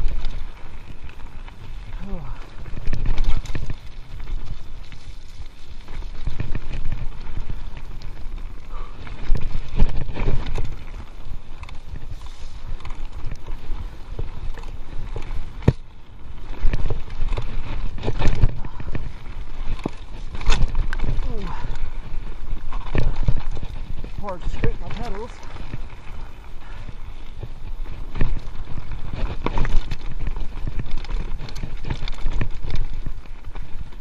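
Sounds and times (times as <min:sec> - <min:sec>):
bike clattering over bumps: 0:00.0 - 0:34.0
tyres rumbling on dirt trail: 0:00.0 - 0:34.0.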